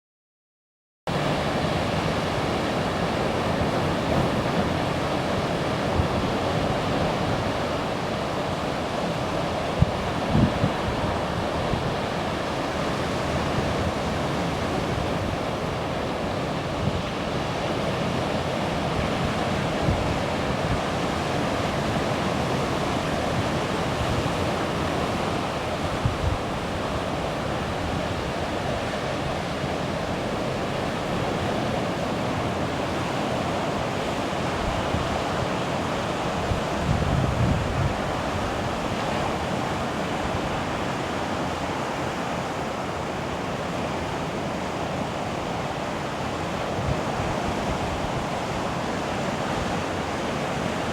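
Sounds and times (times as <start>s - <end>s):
sea waves washing on shore: 1.1s - 50.9s
wind on microphone: 1.6s - 50.9s.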